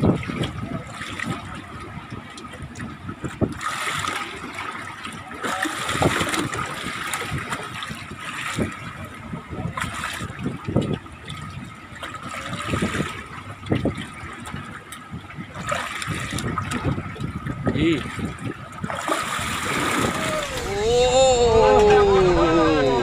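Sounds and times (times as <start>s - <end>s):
water slapping against boat: 0.0s - 23.0s.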